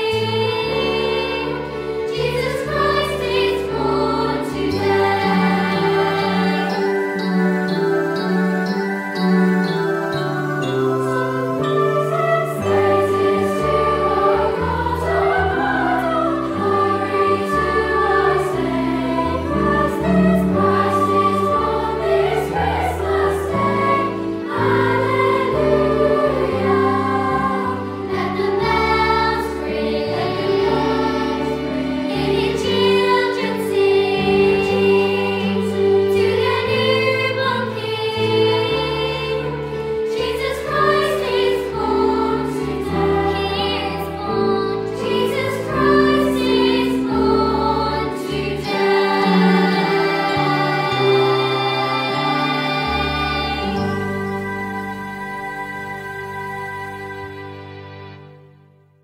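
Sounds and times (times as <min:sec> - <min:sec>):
choir singing a carol: 0:00.0 - 0:58.3
instrumental accompaniment: 0:00.0 - 0:59.0.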